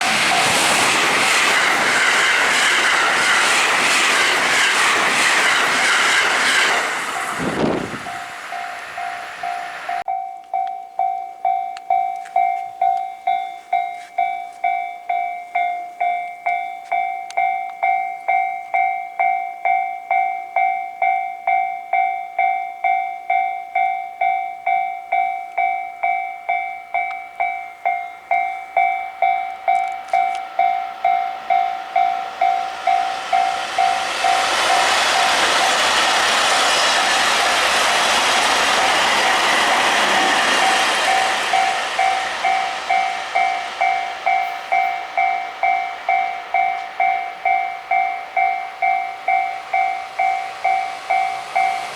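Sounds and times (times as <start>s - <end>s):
level-crossing warning bell: 0.0s - 51.9s
train passing: 0.0s - 51.9s.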